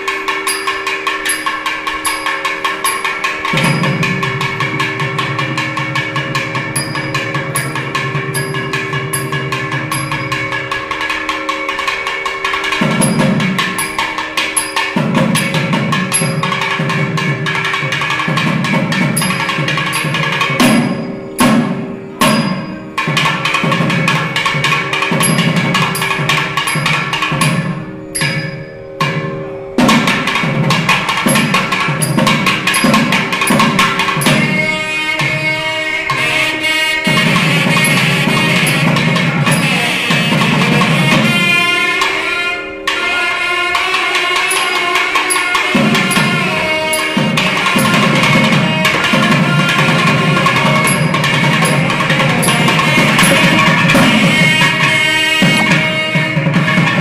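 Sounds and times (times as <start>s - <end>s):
steady drone: 0.0s - 56.7s
fast hand drum solo: 1.6s - 29.2s, 29.8s - 42.2s, 44.1s - 57.0s.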